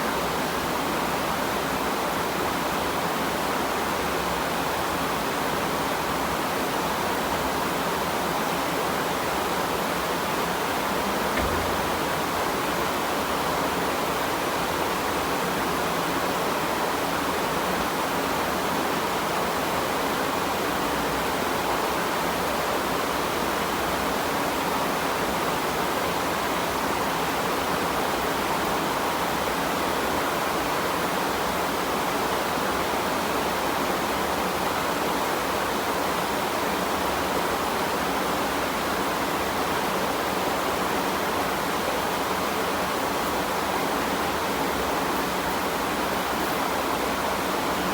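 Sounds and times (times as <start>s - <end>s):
steady rain falling: 0.1s - 47.9s.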